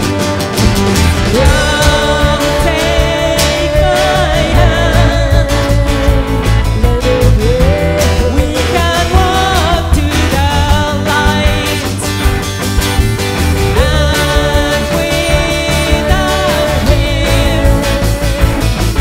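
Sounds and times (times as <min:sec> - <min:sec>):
singers holding long notes: 0:00.0 - 0:12.0, 0:13.8 - 0:19.0
live rock band playing: 0:00.0 - 0:19.0.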